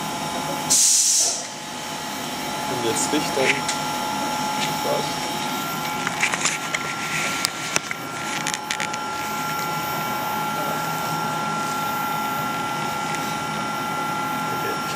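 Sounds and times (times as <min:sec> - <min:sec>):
machine with high whining tones: 0:00.0 - 0:14.9.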